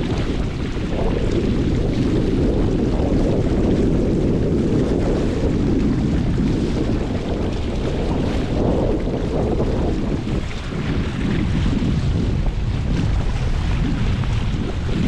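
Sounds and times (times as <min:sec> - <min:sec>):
water washing along boat hull: 0:00.0 - 0:15.0
wind buffeting microphone: 0:00.0 - 0:15.0.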